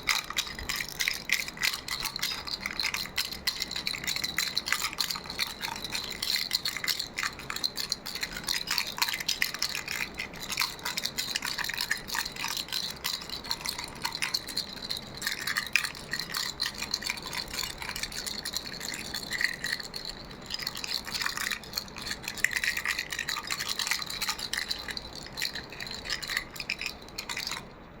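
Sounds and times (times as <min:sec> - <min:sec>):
baby rattle shaken: 0:00.0 - 0:27.8.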